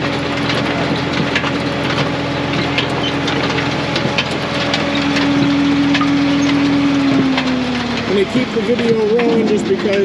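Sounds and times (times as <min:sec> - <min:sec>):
firewood processor running: 0:00.0 - 0:10.0.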